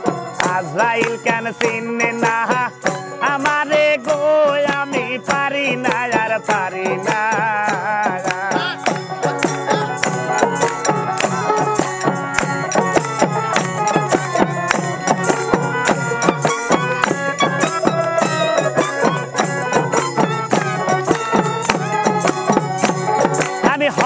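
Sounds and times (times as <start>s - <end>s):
hand clapping: 0.0s - 24.0s
hand drum: 0.0s - 24.0s
harmonium: 0.0s - 24.0s
plucked string melody: 0.0s - 24.0s.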